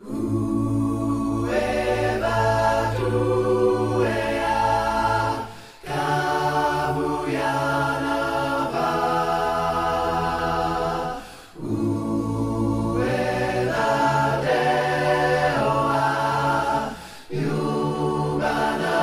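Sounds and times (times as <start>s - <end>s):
a cappella voices singing chords: 0.0s - 19.0s.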